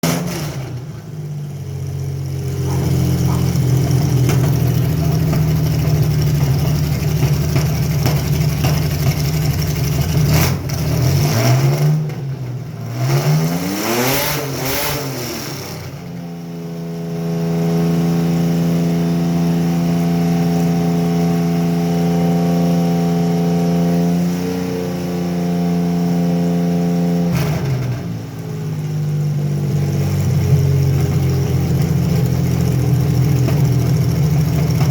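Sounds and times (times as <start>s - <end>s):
car engine misfiring and revving: 0.0s - 34.9s.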